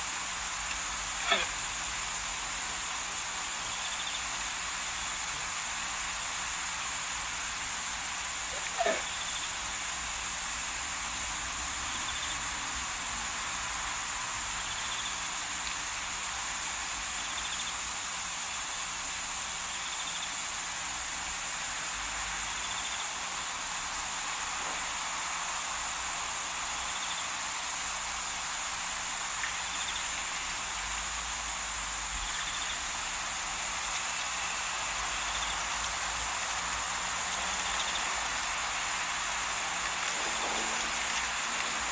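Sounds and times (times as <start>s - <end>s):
high-pitched insect chorus: 0.0s - 41.9s
outdoor bush ambience hiss: 0.0s - 41.9s.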